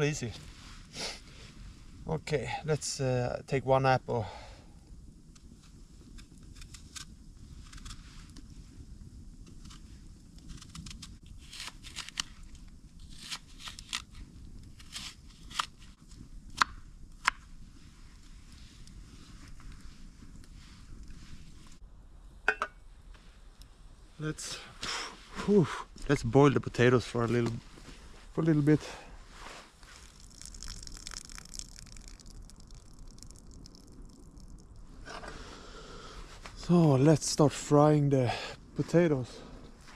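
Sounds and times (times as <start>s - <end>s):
campfire crackles: 0.0s - 39.9s
low steady rumble: 0.0s - 39.9s.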